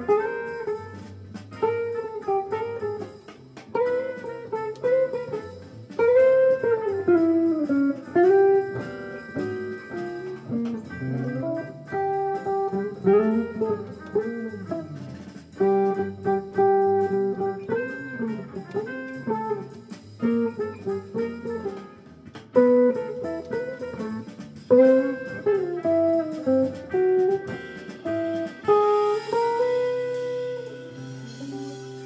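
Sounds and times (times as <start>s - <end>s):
clean jazz electric guitar: 0.0s - 32.0s.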